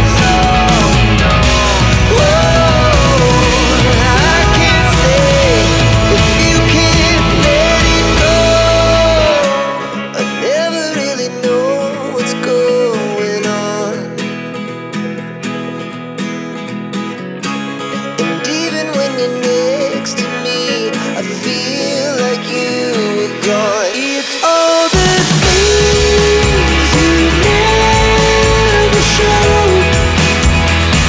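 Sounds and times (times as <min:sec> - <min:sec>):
song with acoustic guitar: 0:00.0 - 0:31.0.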